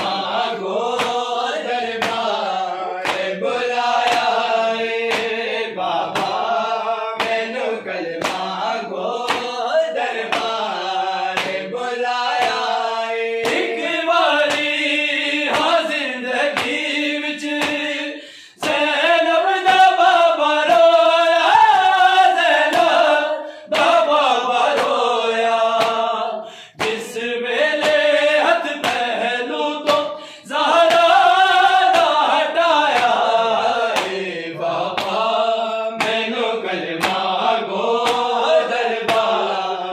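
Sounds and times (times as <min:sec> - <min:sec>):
men chanting in unison: 0:00.0 - 0:39.9
sharp rhythmic beats: 0:00.0 - 0:39.9.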